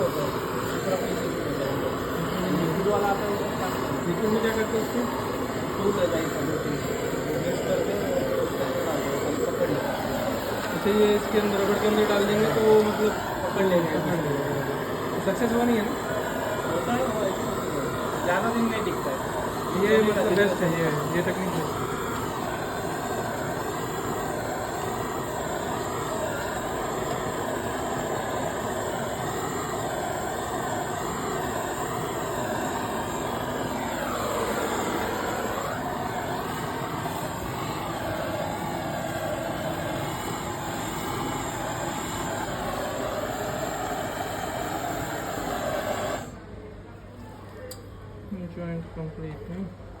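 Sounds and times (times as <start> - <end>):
blowtorch flame roaring: 0.0 - 46.6.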